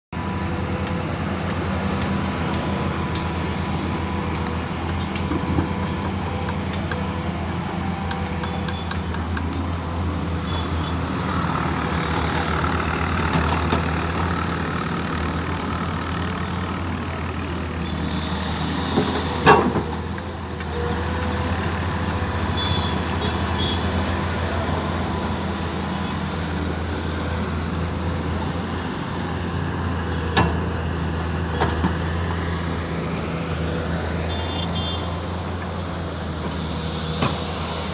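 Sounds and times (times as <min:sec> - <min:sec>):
excavator diesel engine running: 0:00.2 - 0:37.9.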